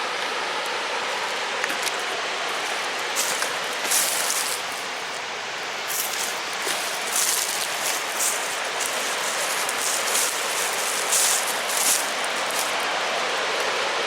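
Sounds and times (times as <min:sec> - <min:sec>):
wind rushing through trees: 0:00.0 - 0:14.0.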